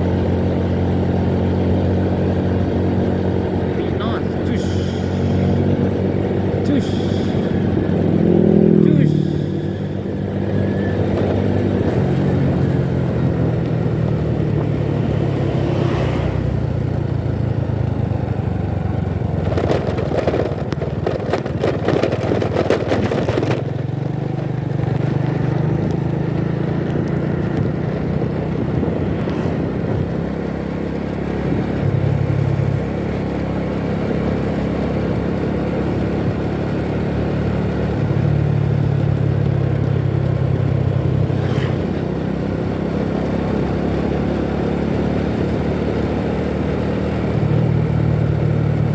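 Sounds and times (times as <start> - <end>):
vehicle engine drone: 0.0 - 48.9.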